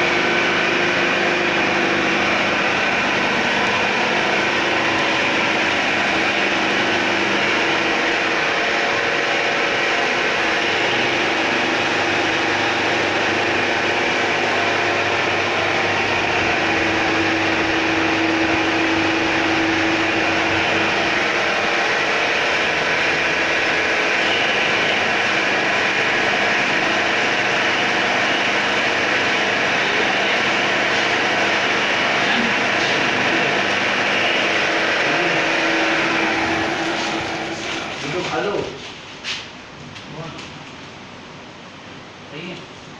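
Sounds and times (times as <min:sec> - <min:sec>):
milling machine humming: 0:00.0 - 0:38.8.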